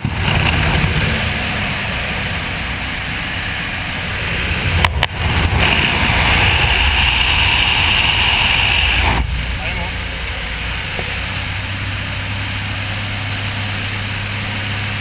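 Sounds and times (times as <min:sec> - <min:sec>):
rushing wind noise: 0:00.0 - 0:12.8
plane engine droning: 0:00.0 - 0:15.0.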